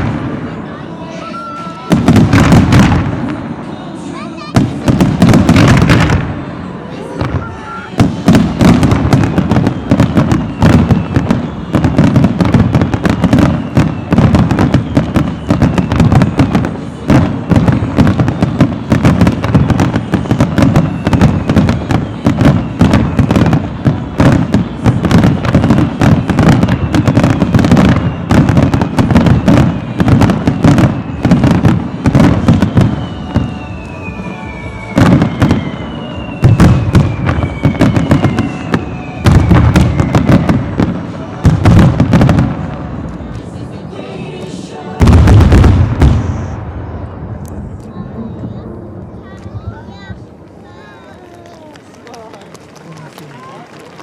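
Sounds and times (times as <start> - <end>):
fireworks booming: 0.0 - 51.0.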